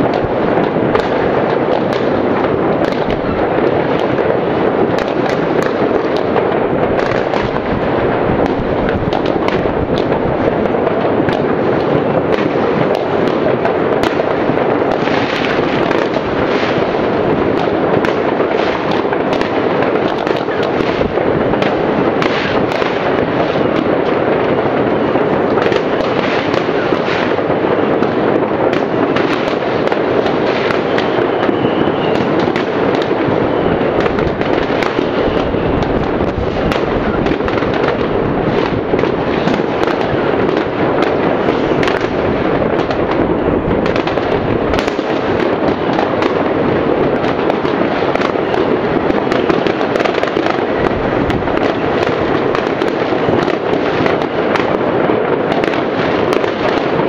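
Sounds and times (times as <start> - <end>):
fireworks and firecrackers crackling: 0.0 - 57.0.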